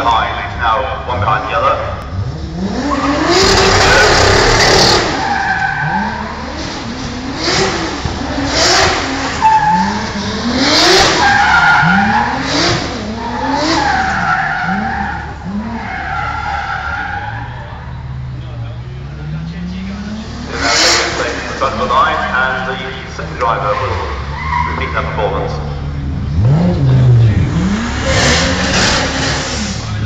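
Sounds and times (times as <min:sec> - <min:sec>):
car engines revving: 0:00.0 - 0:30.0
tyres squealing: 0:02.8 - 0:07.6, 0:08.3 - 0:18.2, 0:20.3 - 0:30.0.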